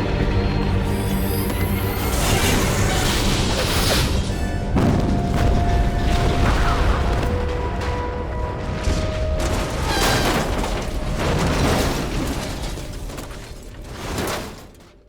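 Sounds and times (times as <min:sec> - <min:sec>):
film music: 0:00.0 - 0:12.8
deep rumbling: 0:00.0 - 0:14.7.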